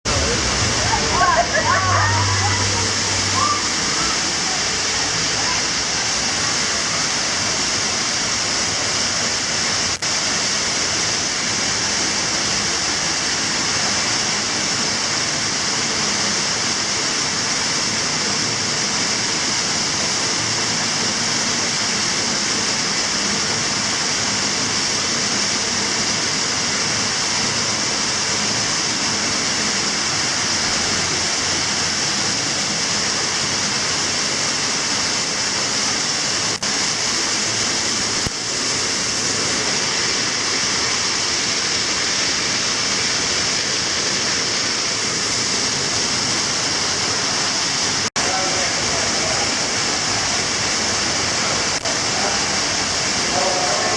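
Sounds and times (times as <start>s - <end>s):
water spraying from burst pipe: 0.1s - 53.9s.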